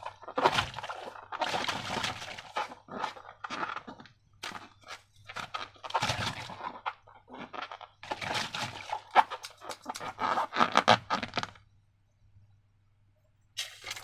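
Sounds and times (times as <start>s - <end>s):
slime and balloon squishing: 0.0s - 11.6s.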